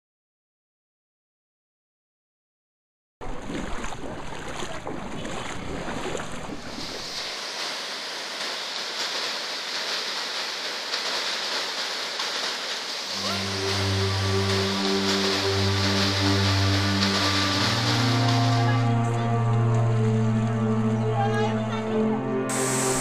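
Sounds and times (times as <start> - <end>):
floodwater rushing: 3.2 - 21.5, 22.4 - 23.0.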